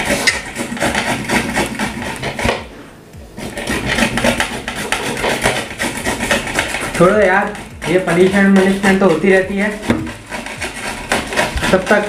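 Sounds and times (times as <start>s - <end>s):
radish rasping on metal grater: 0.0s - 2.6s, 3.4s - 12.0s.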